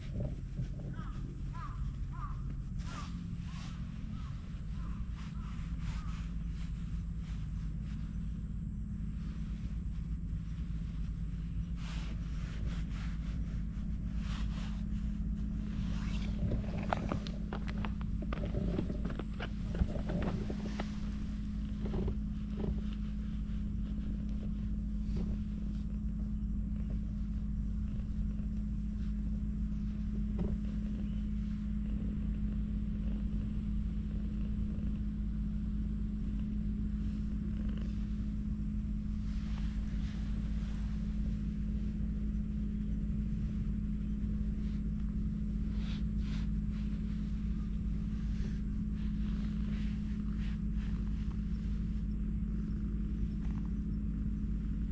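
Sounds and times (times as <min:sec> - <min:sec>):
faint rustles and clicks: 0:00.0 - 0:54.9
low hum: 0:00.0 - 0:54.9
low rumble: 0:00.0 - 0:54.9.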